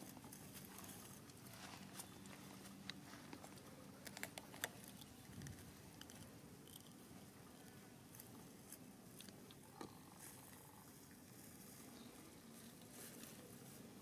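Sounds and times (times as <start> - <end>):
dry grass and leaves crackling: 0.0 - 14.0.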